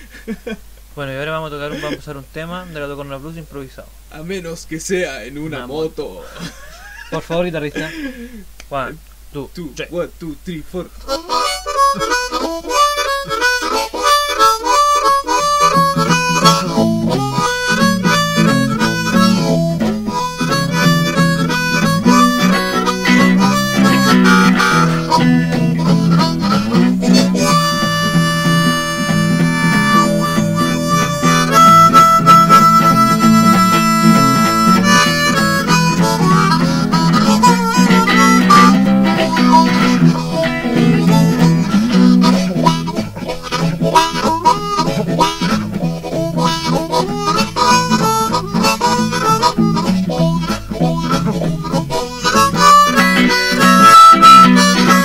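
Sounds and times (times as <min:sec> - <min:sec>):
guitar accompaniment: 0:01.4 - 0:03.5, 0:05.1 - 0:08.9, 0:09.8 - 0:55.0
blues harmonica playing: 0:01.7 - 0:02.0, 0:10.8 - 0:55.0.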